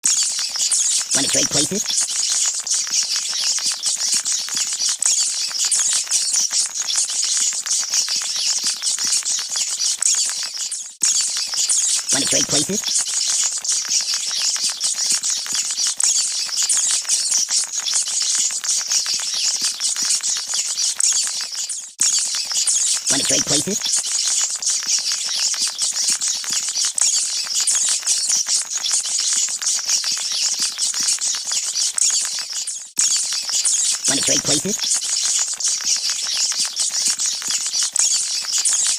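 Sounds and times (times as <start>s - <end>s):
rats squeaking and chittering: 0.0s - 38.9s.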